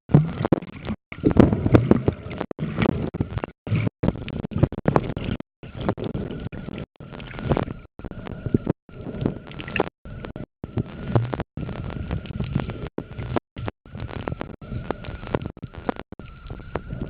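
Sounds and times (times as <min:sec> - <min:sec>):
muffled water and rubbing: 0:00.1 - 0:17.0
faint steady whine: 0:00.2 - 0:17.0.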